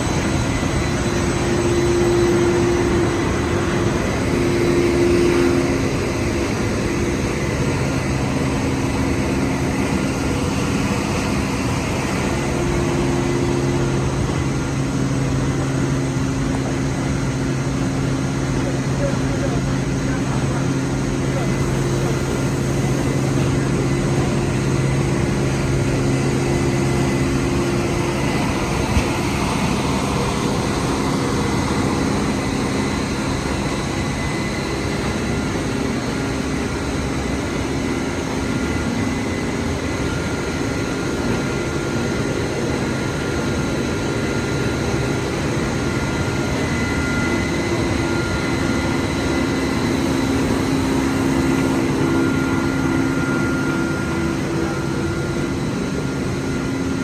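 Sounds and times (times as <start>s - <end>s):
machinery drone with hiss: 0.0s - 57.0s.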